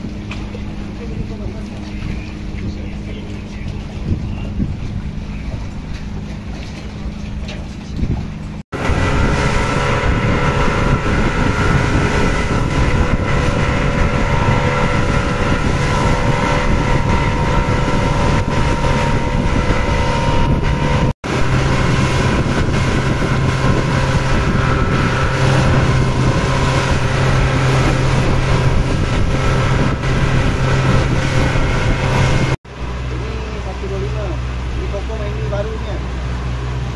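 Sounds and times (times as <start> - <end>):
wind noise on microphone: 0.0 - 33.1
boat engine humming: 0.0 - 36.9.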